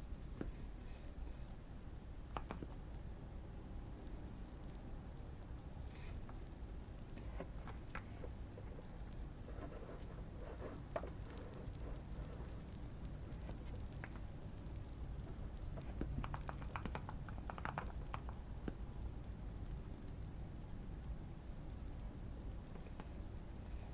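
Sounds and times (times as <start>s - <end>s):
fireplace crackling: 0.0s - 23.9s.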